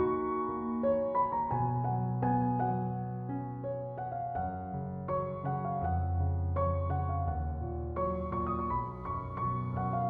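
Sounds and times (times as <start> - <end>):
slow gentle piano music: 0.0 - 10.0.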